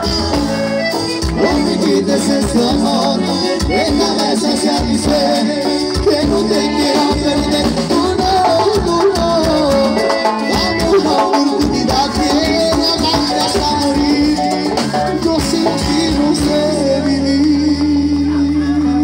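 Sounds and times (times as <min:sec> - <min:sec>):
accordion: 0:00.0 - 0:19.0
latin band playing: 0:00.0 - 0:19.0
man singing: 0:00.0 - 0:19.0.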